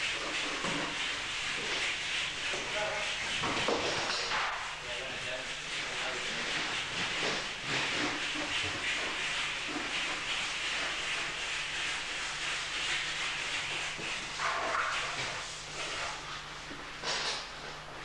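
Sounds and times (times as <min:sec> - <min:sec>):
scrape or splash: 0:00.0 - 0:17.6
brushes scrubbing fire engine: 0:00.0 - 0:18.0.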